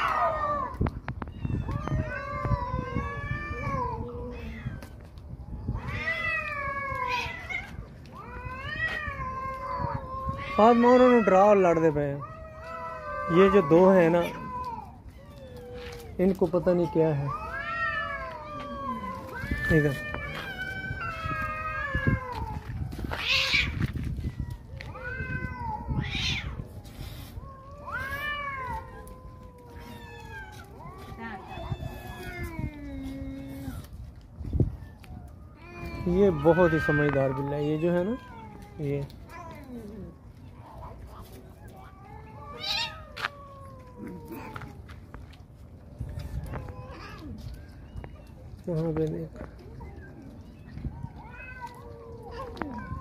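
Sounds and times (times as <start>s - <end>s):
cats meowing: 0.0s - 53.0s.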